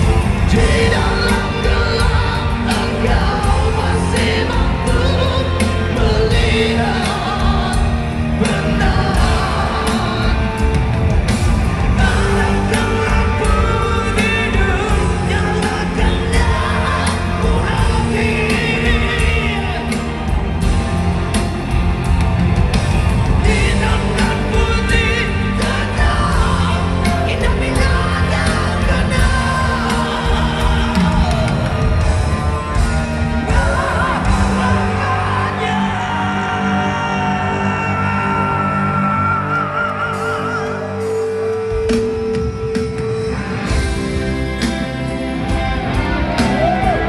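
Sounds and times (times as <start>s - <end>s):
men singing into microphones: 0.0s - 11.0s, 11.7s - 20.6s, 23.4s - 41.8s
live rock band playing: 0.0s - 47.0s.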